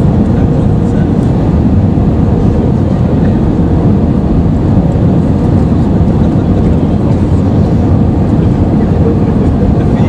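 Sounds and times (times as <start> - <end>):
airliner cabin engine rumble: 0.0 - 10.0.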